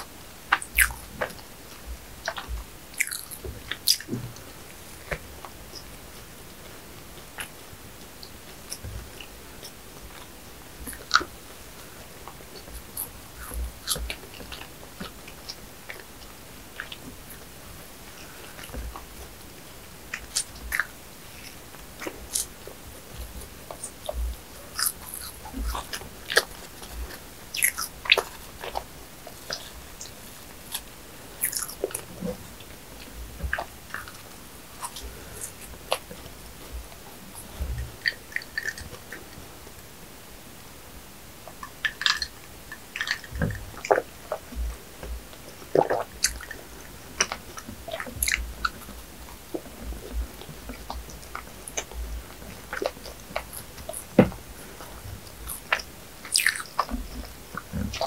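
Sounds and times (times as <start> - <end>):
person chewing flaky pastry: 0.0 - 6.3, 7.2 - 39.4, 41.5 - 58.0.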